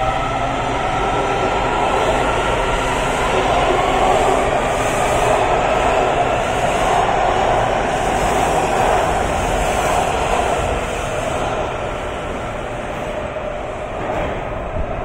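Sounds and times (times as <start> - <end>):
subway train running past: 0.0 - 15.0.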